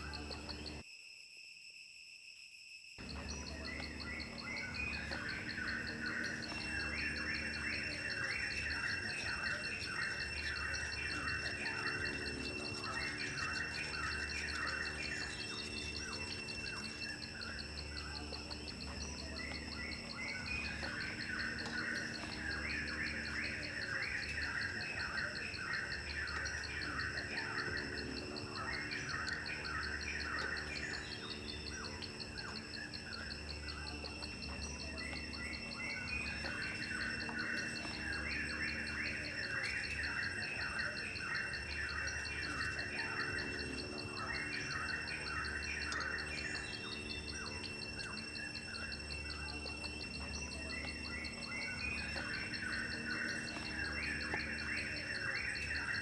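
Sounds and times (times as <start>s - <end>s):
birds chirping: 0.0s - 0.8s, 3.0s - 56.0s
insects trilling: 0.0s - 56.0s.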